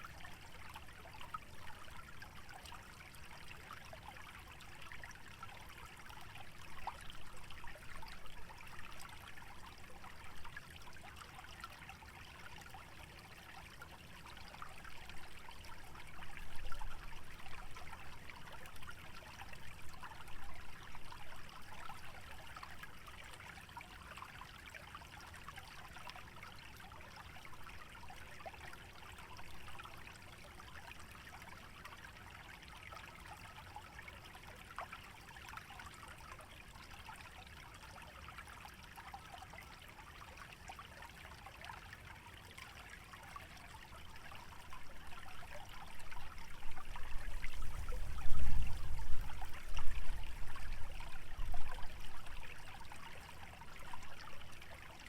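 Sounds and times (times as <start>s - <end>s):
stream trickling and babbling: 0.0s - 55.0s.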